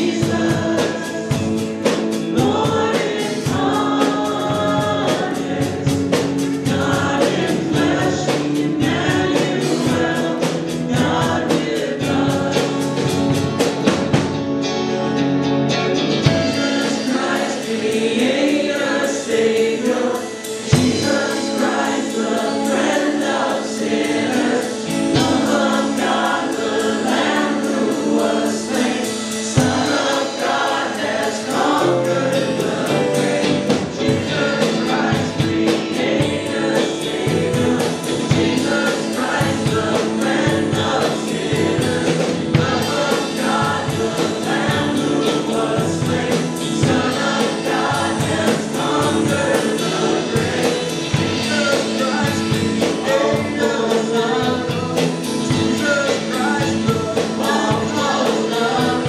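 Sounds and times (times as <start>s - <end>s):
voices singing together: 0.0s - 14.4s, 16.0s - 59.0s
drums with cymbal beat: 0.0s - 14.9s, 15.7s - 59.0s
bass guitar: 0.0s - 59.0s
electric guitar: 0.0s - 59.0s.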